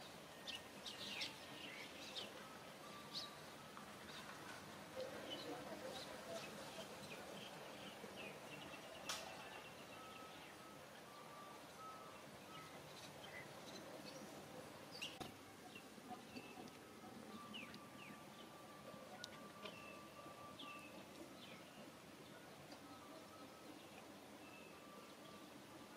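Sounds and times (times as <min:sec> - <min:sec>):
quiet hiss: 0:00.0 - 0:25.9.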